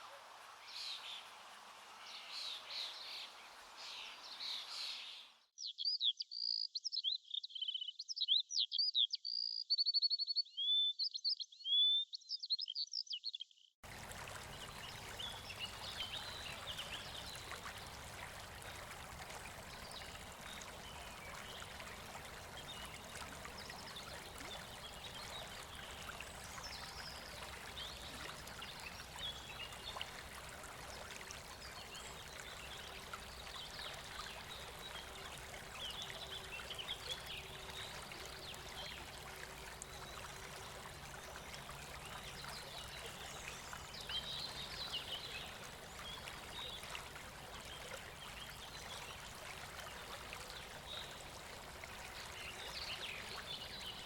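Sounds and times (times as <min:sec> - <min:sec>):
running water rushing: 0:00.0 - 0:05.0, 0:13.8 - 0:54.0.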